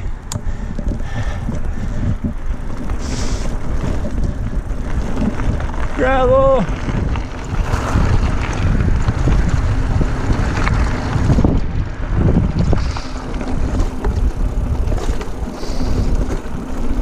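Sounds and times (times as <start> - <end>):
bike knocking and rattling: 0.0 - 17.0
wind buffeting microphone: 0.0 - 17.0
tyres crunching over gravel: 0.5 - 17.0.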